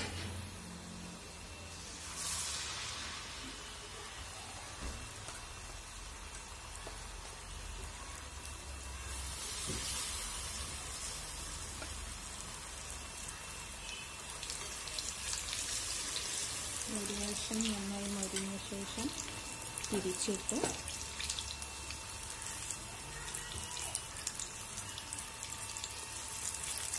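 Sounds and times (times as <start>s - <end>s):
oil sizzling and crackling: 0.0s - 26.9s.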